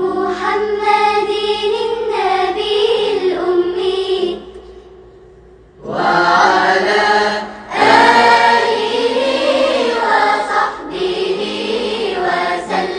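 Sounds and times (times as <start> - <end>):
choir singing with held notes: 0.0 - 4.6, 5.8 - 12.9.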